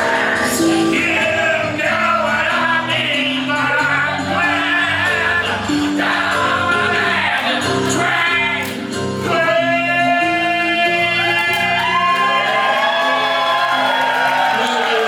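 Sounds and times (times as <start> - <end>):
song with singing and instruments: 0.0 - 13.2.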